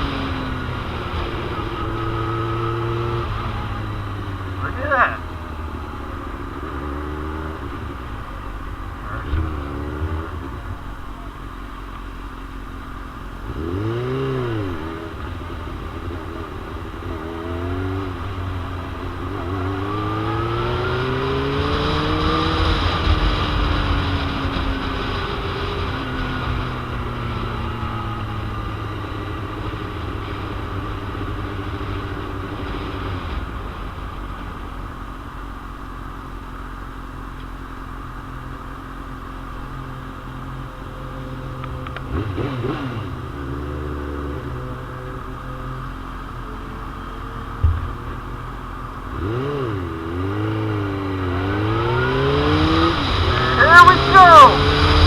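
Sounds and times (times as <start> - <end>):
motorcycle engine revving: 0.0 - 35.2, 36.6 - 55.0.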